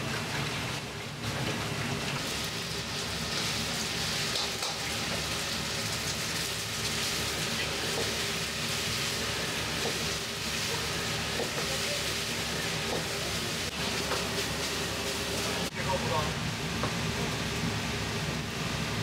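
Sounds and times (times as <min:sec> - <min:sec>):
rice sizzling in a wok: 0:00.0 - 0:19.0.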